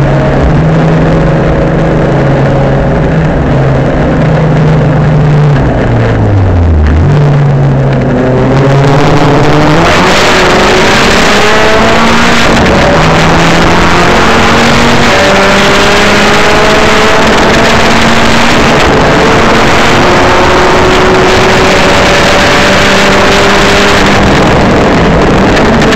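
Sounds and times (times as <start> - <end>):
race car engine revving: 0.0 - 25.9
wind and road noise: 0.0 - 25.9.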